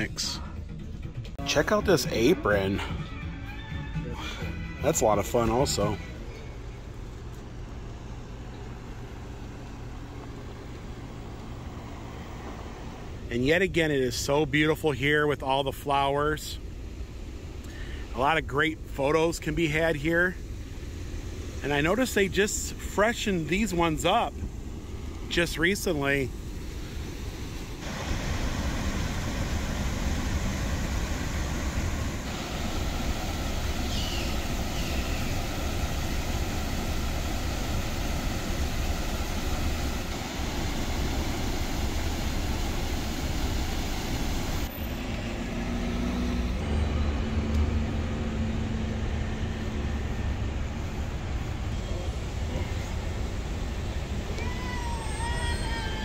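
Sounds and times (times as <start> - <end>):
road traffic rumble: 0.0 - 56.0
steady low hum: 4.1 - 44.8, 46.4 - 54.4.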